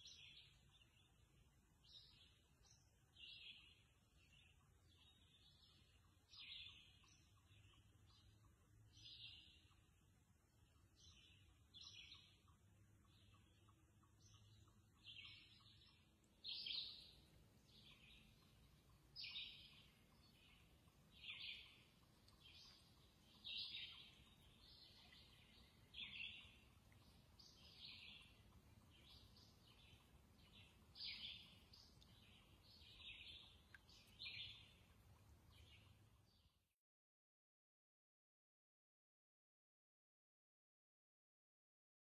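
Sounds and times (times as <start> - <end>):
songbird singing high phrases: 0.0 - 9.8, 10.9 - 34.9
low background noise: 0.0 - 36.6.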